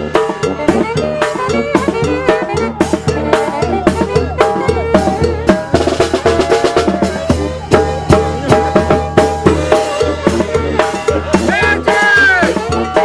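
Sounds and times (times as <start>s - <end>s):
bass drum beat: 0.0s - 13.0s
brass melody: 0.0s - 13.0s.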